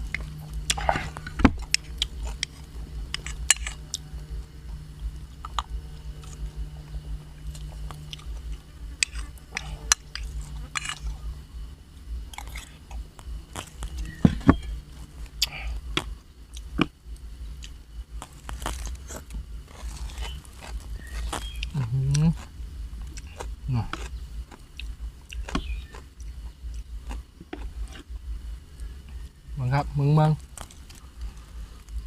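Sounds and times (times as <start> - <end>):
crunchy bites and chewing: 0.0 - 11.5, 12.2 - 29.2, 30.3 - 32.0
steady low hum: 0.0 - 32.0.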